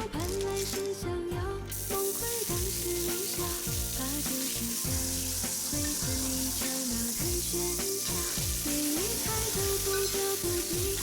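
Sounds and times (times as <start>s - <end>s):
background music: 0.0s - 11.0s
food sizzling in hot oil: 1.7s - 11.0s.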